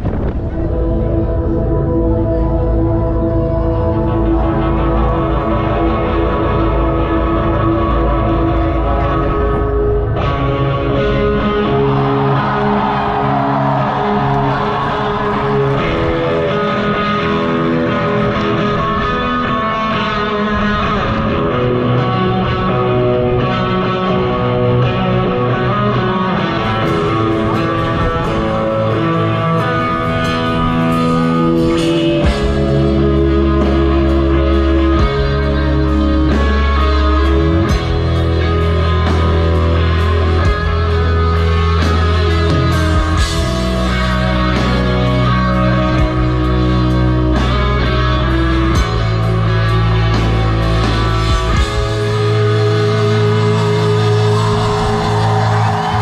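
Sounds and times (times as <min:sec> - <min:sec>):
drums: 0:00.0 - 0:56.0
electric guitars: 0:00.0 - 0:56.0
heavy bass: 0:00.0 - 0:56.0.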